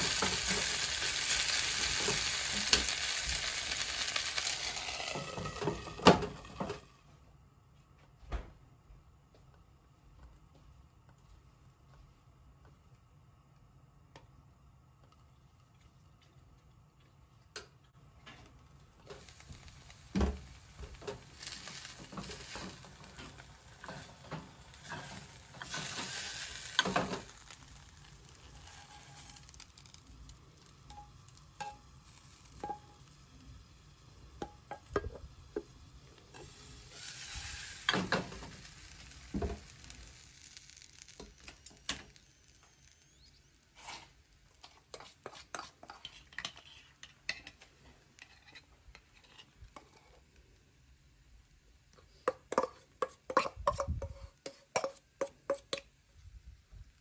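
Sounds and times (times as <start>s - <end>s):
potato cake sizzling in pan: 0.0s - 7.2s, 17.6s - 57.0s.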